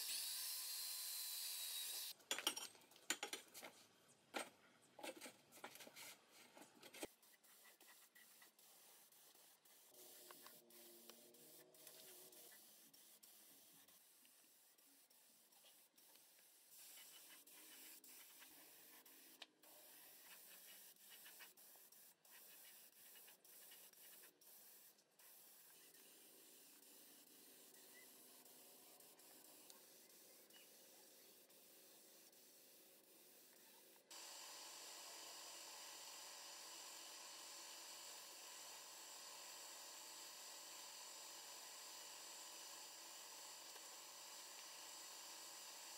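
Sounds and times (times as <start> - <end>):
spray gun hissing: 7.2 - 45.9.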